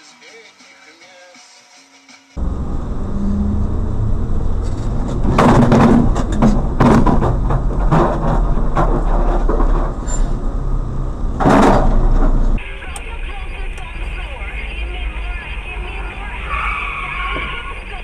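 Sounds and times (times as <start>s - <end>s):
vehicle engine and road noise: 2.4s - 18.0s.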